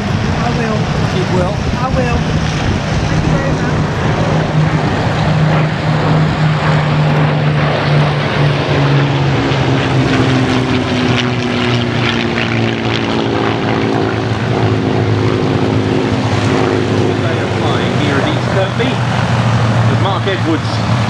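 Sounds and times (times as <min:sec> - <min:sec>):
propeller aircraft piston engines: 0:00.0 - 0:21.0.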